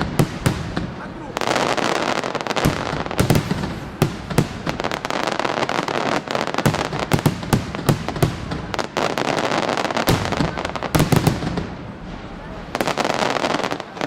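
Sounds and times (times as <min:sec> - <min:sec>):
fireworks loud bangs: 0:00.0 - 0:14.0.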